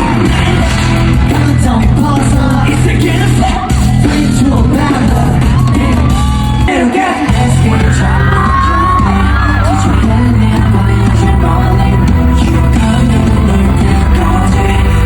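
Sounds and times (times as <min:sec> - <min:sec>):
loud pop music with heavy bass: 0:00.0 - 0:15.0
voices singing and yelling: 0:00.0 - 0:15.0.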